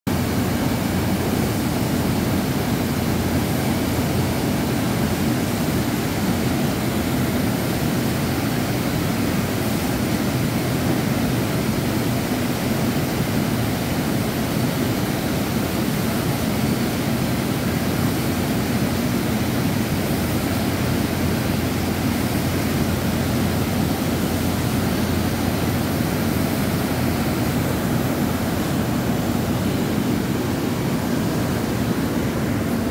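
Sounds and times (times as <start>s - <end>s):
factory machinery running: 0.1s - 32.9s.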